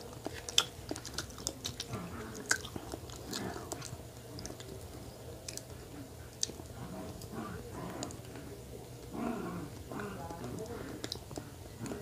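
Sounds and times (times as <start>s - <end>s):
person chewing soft food: 0.0s - 12.0s.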